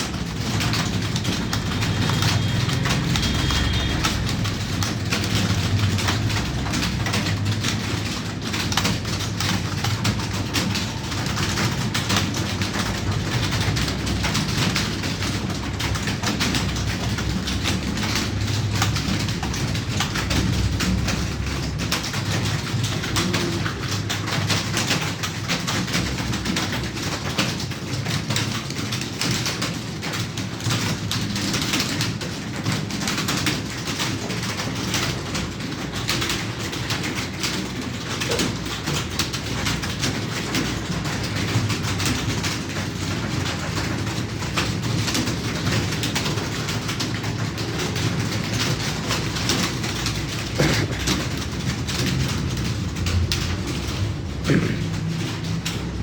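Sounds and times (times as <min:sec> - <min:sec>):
keyboards clattering: 0:00.0 - 0:56.0.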